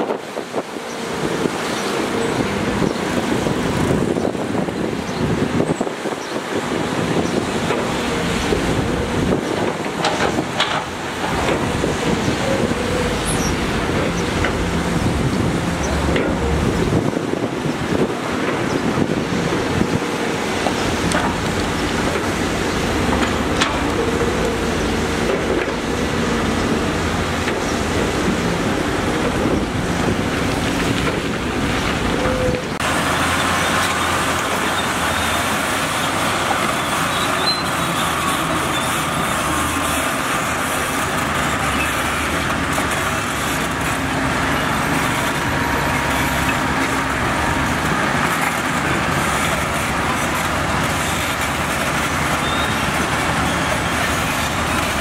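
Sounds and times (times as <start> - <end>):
diesel construction machinery engines: 0.0 - 55.0
higher hissy engine noise: 5.6 - 55.0.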